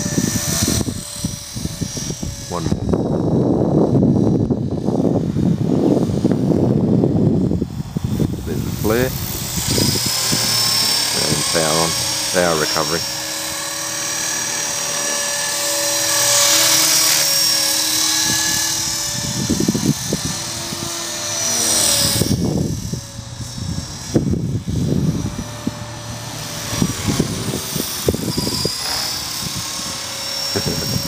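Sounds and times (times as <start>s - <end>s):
rc helicopter motor whine: 0.0s - 31.0s
wind buffeting microphone: 0.0s - 31.0s.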